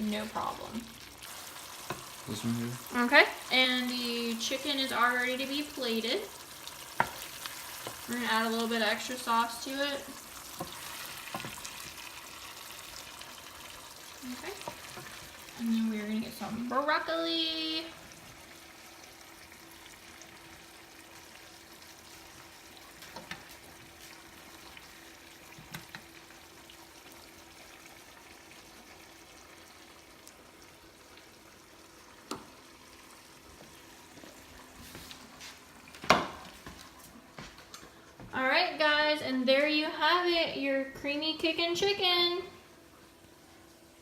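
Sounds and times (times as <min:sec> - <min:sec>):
food sizzling in a pan: 0:00.0 - 0:37.1.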